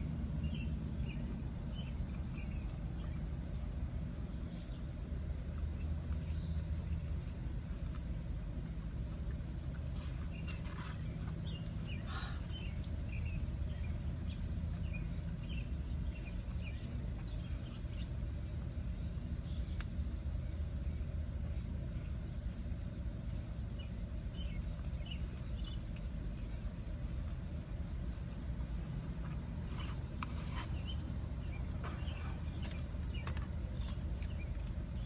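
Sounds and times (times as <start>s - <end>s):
vehicle rumble: 0.0s - 35.0s.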